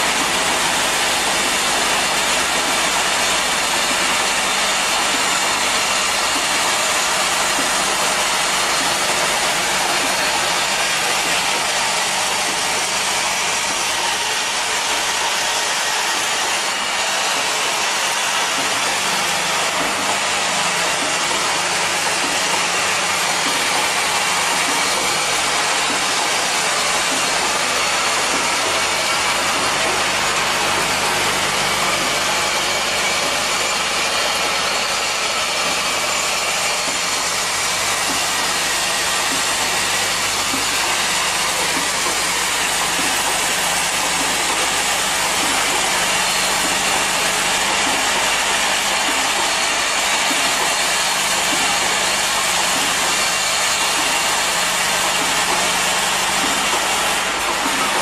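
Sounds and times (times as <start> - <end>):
dense hiss-like machine noise: 0.0 - 58.0
vibratory bowl feeders humming: 0.0 - 58.0.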